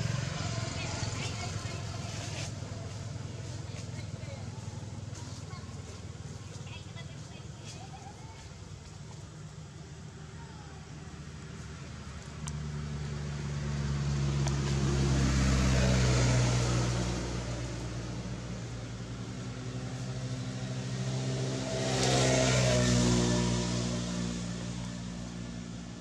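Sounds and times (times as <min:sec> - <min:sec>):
vehicles driving past: 0:00.0 - 0:26.0.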